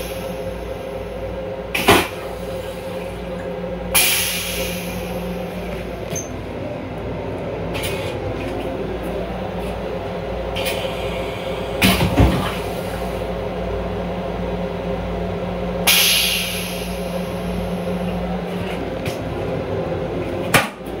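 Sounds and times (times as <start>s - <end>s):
low hum: 0.0s - 21.0s
train rumbling: 0.0s - 21.0s.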